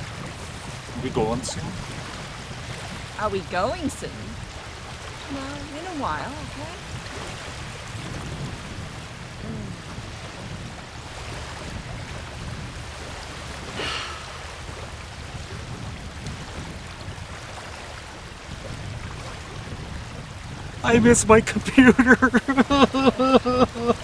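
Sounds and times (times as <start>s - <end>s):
small waves washing on shore: 0.0s - 24.0s.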